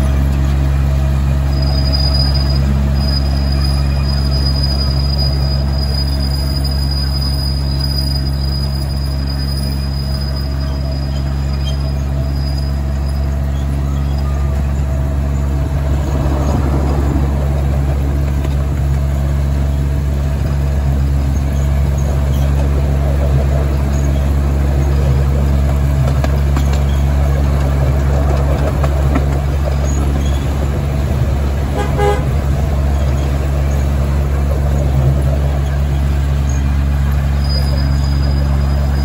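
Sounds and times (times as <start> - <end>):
miniature train drive drone: 0.0 - 39.0.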